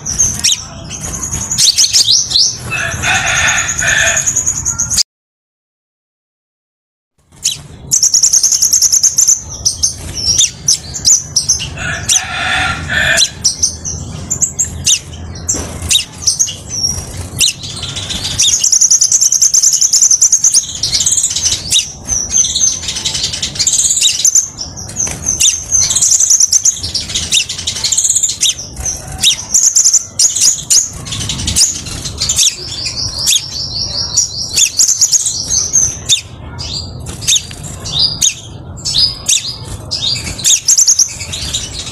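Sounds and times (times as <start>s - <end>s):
bird twittering trills: 0.0s - 5.0s, 7.3s - 41.9s.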